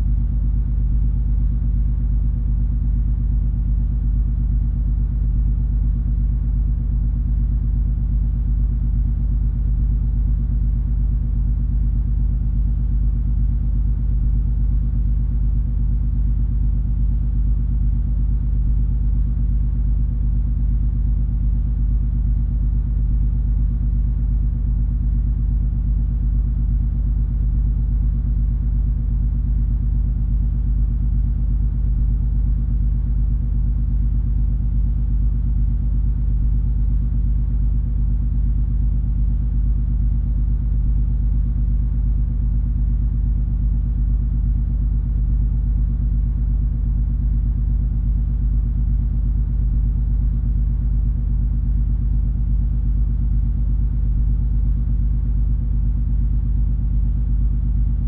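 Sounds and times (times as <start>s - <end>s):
constant steady hum: 0.0s - 58.0s.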